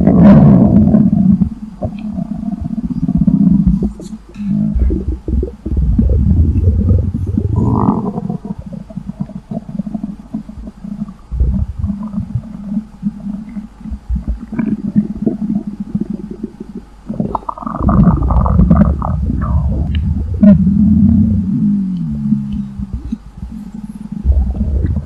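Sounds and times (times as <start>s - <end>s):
stomach growling and gurgling: 0.0s - 25.0s.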